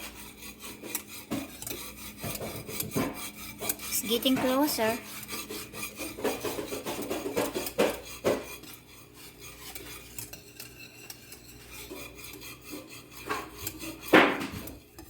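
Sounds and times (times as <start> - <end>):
spoon stirring in a saucepan: 0.0 - 15.0.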